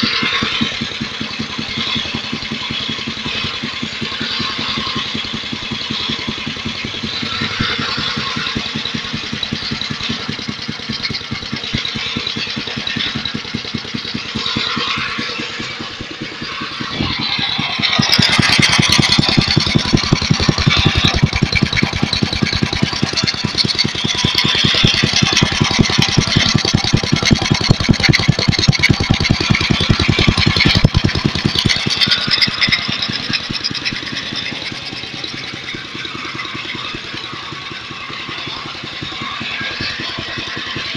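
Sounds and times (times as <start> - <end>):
belt and pulley drive spinning: 0.0 - 40.9
tractor engine running: 0.0 - 40.9.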